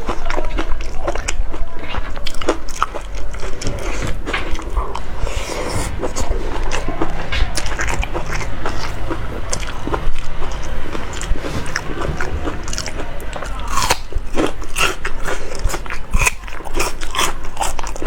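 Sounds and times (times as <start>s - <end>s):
chewing and mouth smacking: 0.0s - 18.0s.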